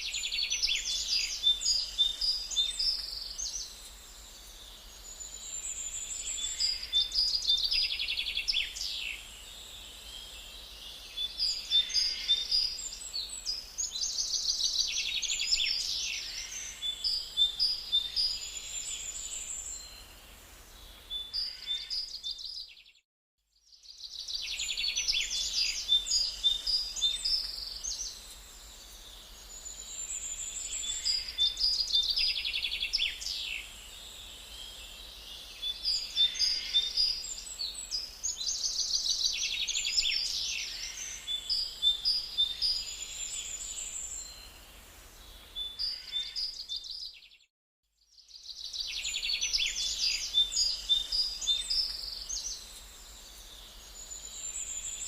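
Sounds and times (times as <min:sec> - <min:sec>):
songbirds singing and chirping: 0:00.0 - 0:23.0, 0:23.6 - 0:55.0.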